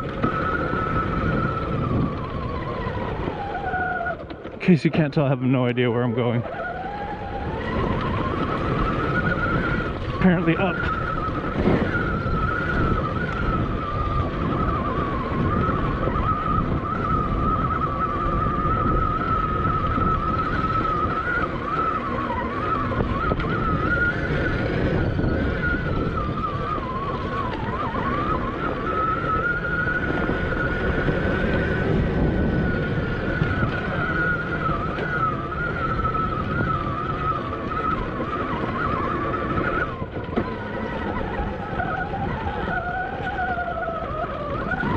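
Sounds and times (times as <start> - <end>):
electric motorbike motor whining: 0.0 - 44.9
wind buffeting microphone: 0.0 - 44.9.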